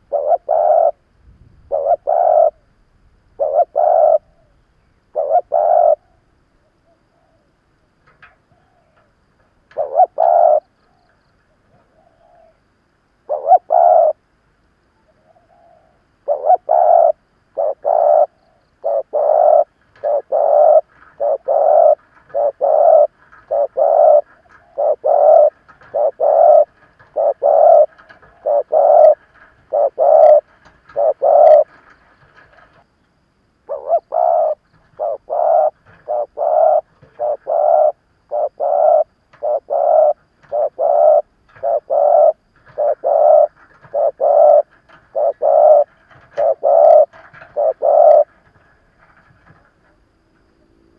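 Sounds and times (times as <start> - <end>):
dove cooing: 0.0 - 1.0, 1.7 - 2.7, 3.4 - 7.6, 9.7 - 12.6, 13.2 - 14.2, 15.0 - 32.8, 33.6 - 49.7.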